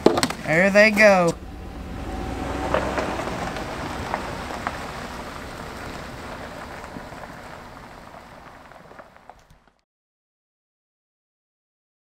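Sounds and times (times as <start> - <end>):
pickup truck pulling away: 0.0 - 9.8.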